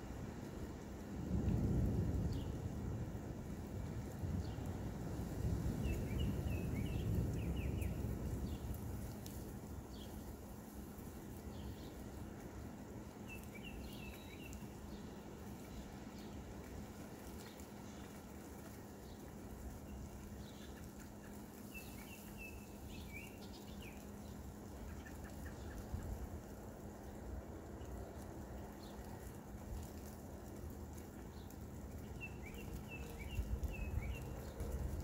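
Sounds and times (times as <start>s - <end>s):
low background hiss: 0.0s - 35.0s
songbirds chirping: 0.0s - 35.0s.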